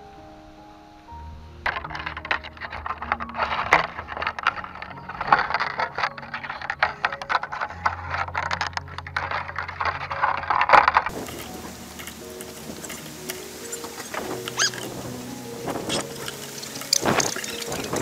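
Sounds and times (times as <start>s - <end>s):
bamboo strands scraping and rustling: 1.6s - 18.0s.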